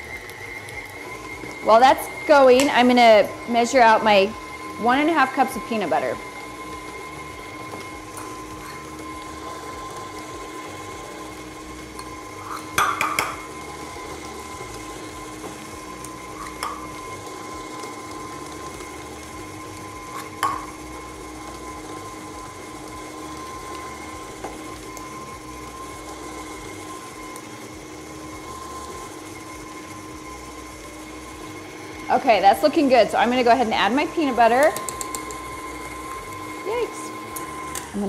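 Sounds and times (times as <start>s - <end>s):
stand mixer motor whine: 0.0s - 38.0s.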